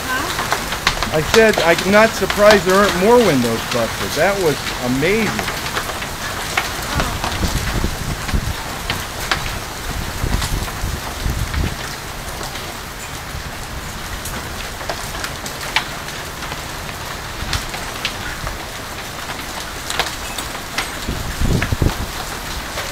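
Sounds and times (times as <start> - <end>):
hail and rain hissing: 0.0 - 22.9
hailstones cracking on hard surfaces: 0.0 - 22.9.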